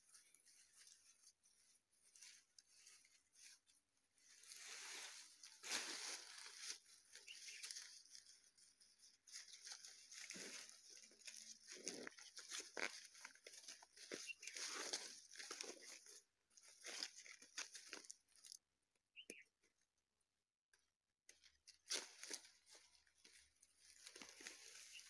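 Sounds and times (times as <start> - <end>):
leafy twigs rustling and crackling: 0.0 - 18.6, 21.4 - 25.0.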